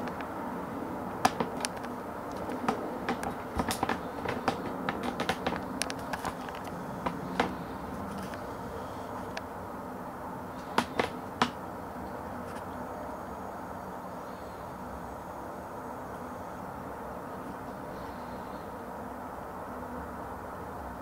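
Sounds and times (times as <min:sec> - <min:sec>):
steady low hum: 0:00.0 - 0:20.7.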